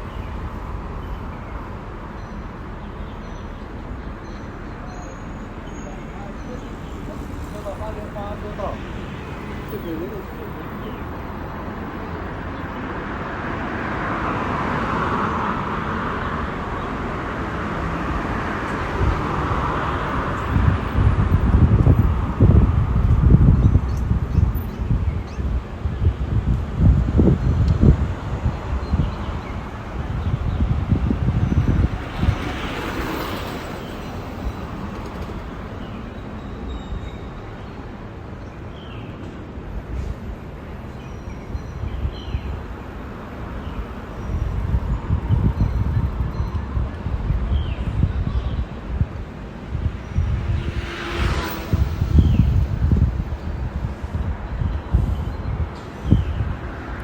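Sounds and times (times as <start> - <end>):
passing vehicles: 0.0 - 57.0
wind rumbling on microphone: 0.0 - 57.0.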